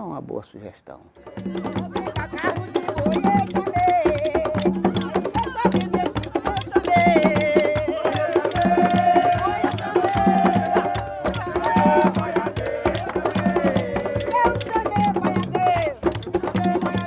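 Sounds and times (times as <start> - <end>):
steady percussion beat: 1.2 - 17.0.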